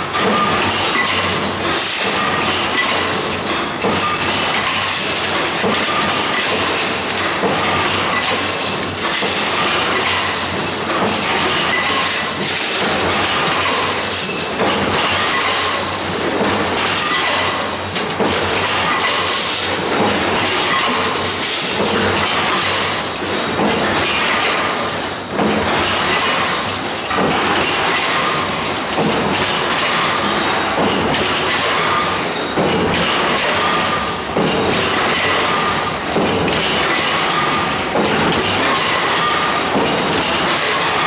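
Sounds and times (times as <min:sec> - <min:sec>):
forging machine metallic clatter: 0:00.0 - 0:41.0.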